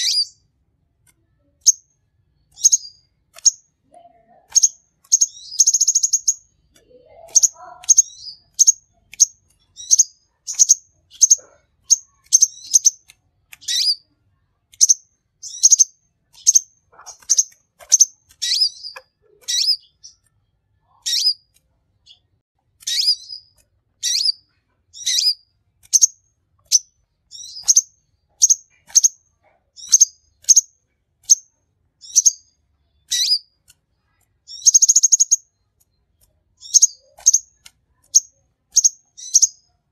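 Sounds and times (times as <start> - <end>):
bird chirping: 0.0 - 0.5, 1.2 - 39.9.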